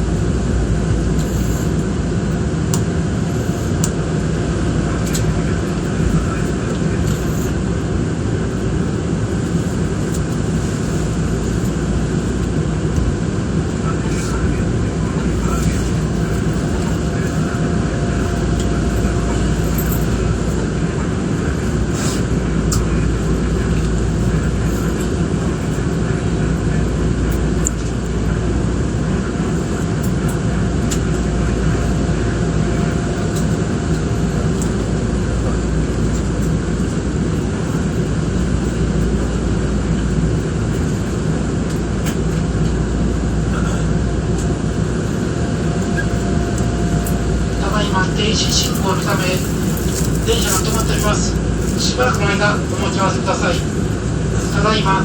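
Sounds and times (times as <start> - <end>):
electric train interior rumble: 0.0 - 55.0.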